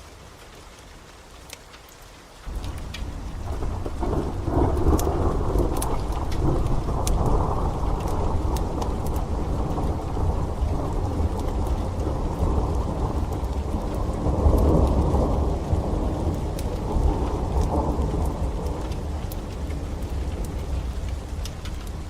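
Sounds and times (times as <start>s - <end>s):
rain falling steadily: 0.0s - 22.0s
wood fire crackles: 0.0s - 22.0s
low rolling thunder: 2.5s - 22.0s.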